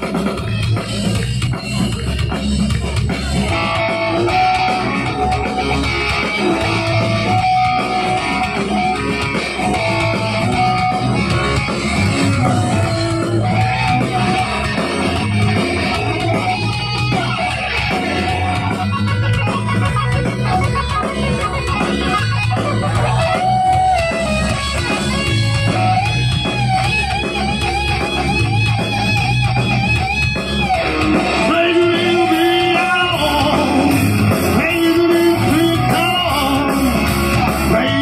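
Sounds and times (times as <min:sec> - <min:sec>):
bass guitar: 0:00.0 - 0:38.0
drum kit: 0:00.0 - 0:38.0
electric guitar melody: 0:00.0 - 0:38.0.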